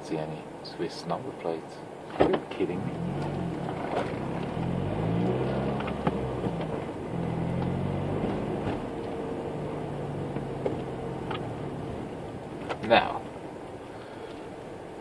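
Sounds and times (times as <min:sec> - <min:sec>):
car engine running: 0:02.2 - 0:15.0.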